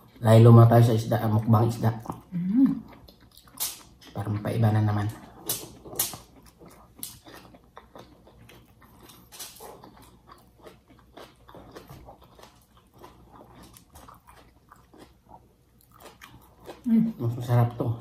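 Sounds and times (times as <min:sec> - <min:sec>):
chewing and lip smacks: 0:01.8 - 0:04.5, 0:05.1 - 0:17.4.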